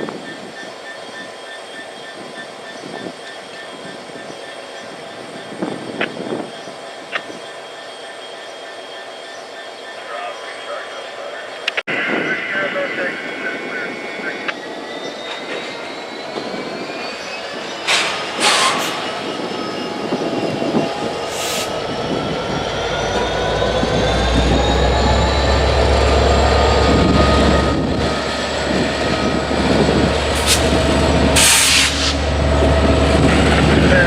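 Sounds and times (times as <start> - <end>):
train wheels squealing: 0.0 - 10.3, 14.6 - 34.0
low train rumble: 0.0 - 34.0.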